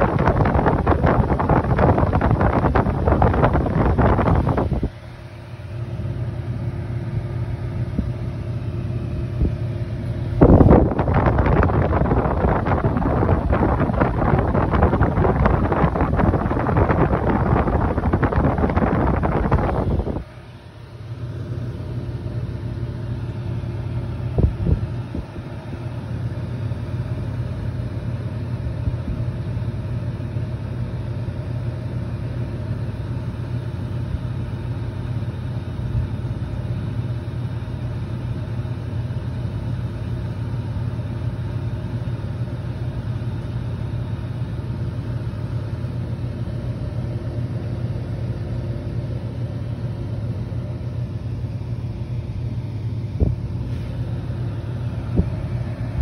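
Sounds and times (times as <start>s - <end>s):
fan motor humming: 0.0s - 56.0s.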